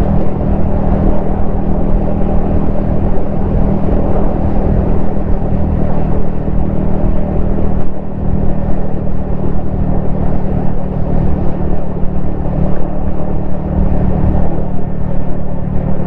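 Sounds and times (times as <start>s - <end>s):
motorcycle engine cruising: 0.0s - 16.0s
wind rumble: 0.0s - 16.0s.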